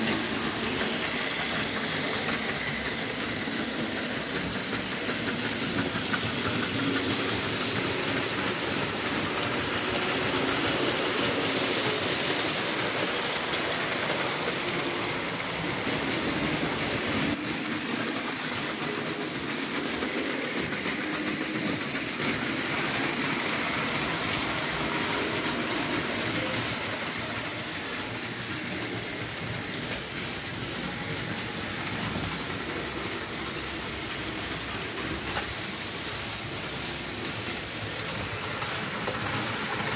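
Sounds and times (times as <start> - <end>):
model trains rolling on track: 0.0 - 39.9.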